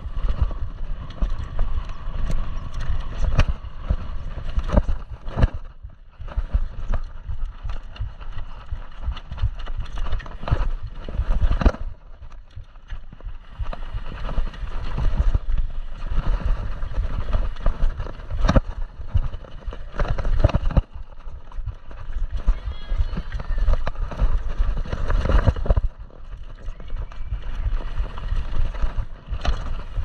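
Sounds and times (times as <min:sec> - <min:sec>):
bike knocking and rattling: 0:00.0 - 0:30.0
wind rumble on microphone: 0:00.0 - 0:30.0.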